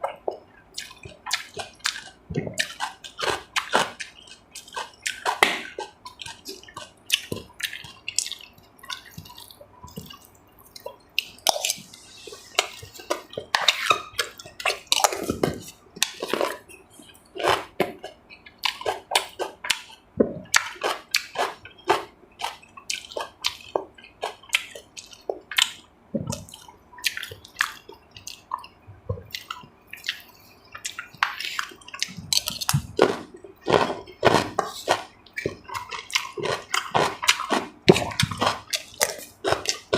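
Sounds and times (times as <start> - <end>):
mouth clicks and smacks: 0.0 - 39.9
wet chewing and slurping: 0.0 - 39.9.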